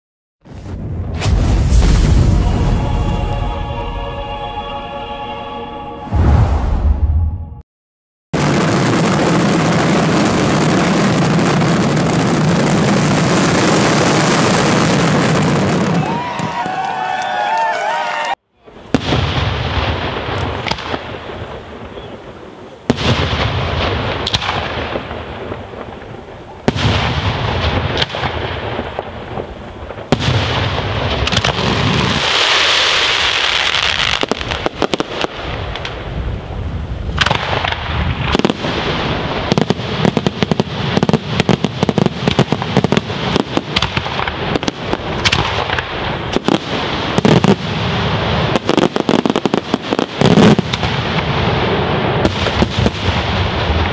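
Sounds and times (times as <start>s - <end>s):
fireworks bursting with loud bangs: 0.4s - 4.0s, 8.4s - 17.0s, 18.7s - 53.9s
fireworks hissing and crackling: 0.5s - 3.6s, 8.4s - 16.9s, 18.7s - 53.9s.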